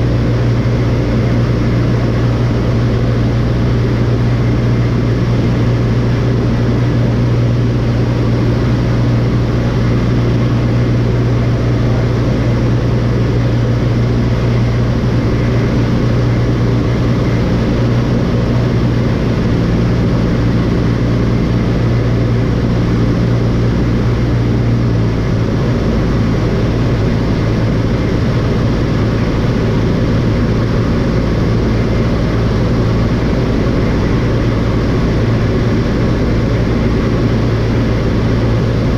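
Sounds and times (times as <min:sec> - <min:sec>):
light airplane engine droning: 0:00.0 - 0:38.9.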